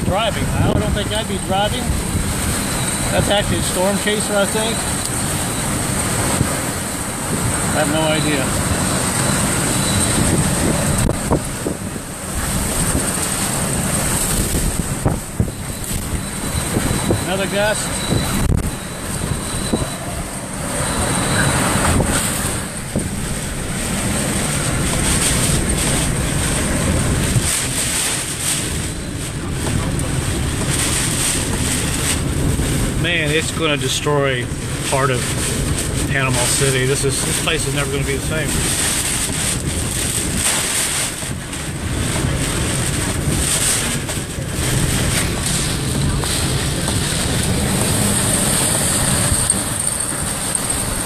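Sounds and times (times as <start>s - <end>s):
wind gusting over microphone: 0.0s - 51.0s.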